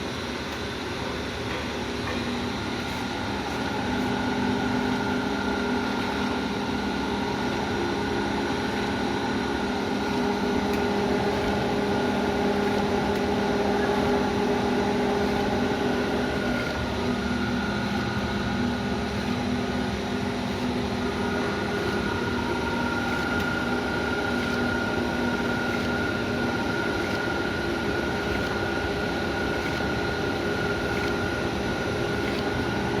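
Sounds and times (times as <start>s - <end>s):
machine humming with whine: 0.0s - 33.0s.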